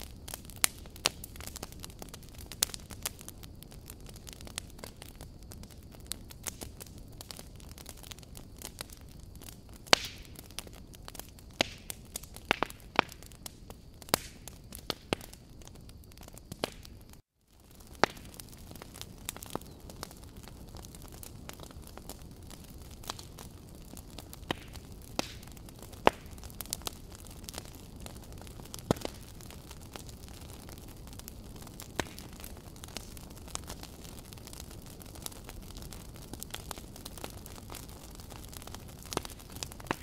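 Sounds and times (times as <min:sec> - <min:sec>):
fire crackling: 0:00.0 - 0:40.0.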